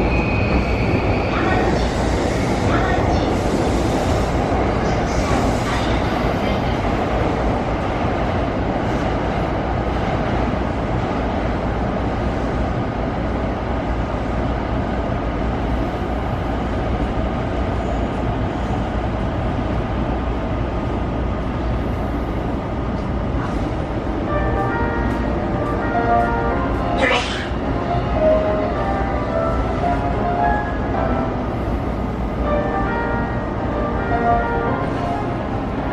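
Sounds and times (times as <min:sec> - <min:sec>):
train wheels rumbling on rails: 0:00.0 - 0:32.4.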